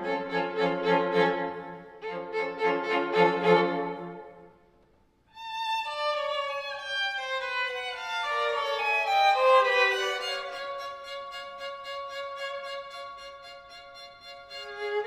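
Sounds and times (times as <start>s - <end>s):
string quartet playing: 0.0s - 4.4s, 5.5s - 15.0s.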